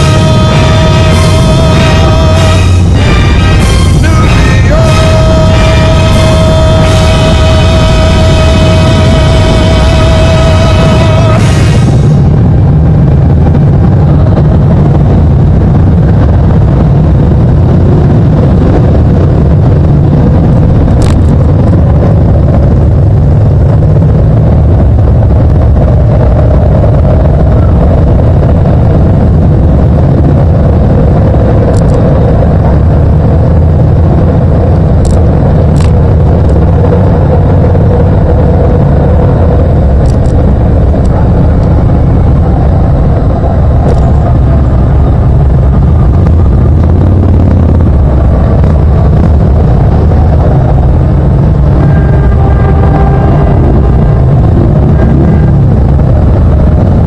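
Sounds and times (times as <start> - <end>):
motorcycle engine rumble: 0.0 - 57.0
wind on microphone: 0.0 - 57.0.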